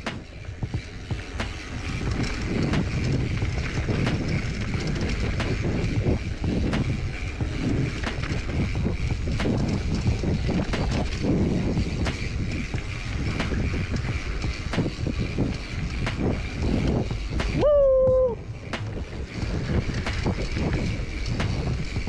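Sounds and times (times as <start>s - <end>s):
bike clicks and rattles: 0.0s - 22.0s
bike tyres on dirt: 0.0s - 22.0s
wind on microphone: 0.0s - 22.0s.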